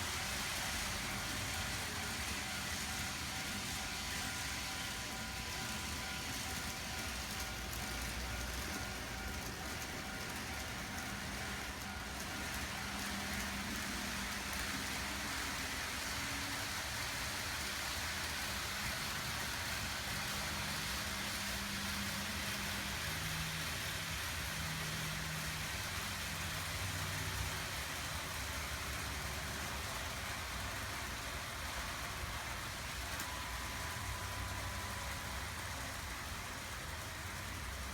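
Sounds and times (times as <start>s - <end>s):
model train wheels rattling on track: 0.0s - 37.9s.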